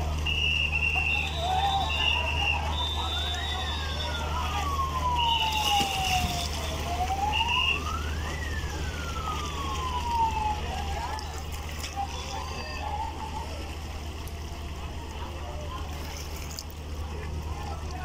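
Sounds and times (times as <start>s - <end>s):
boat siren wailing: 0.0s - 18.0s
low engine hum: 0.0s - 18.0s.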